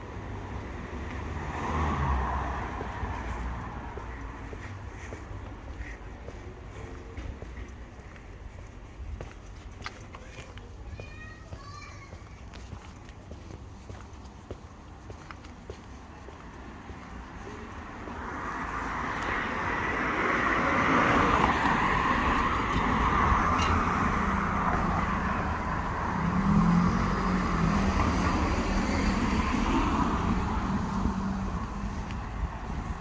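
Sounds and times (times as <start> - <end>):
road traffic passing: 0.0 - 33.0.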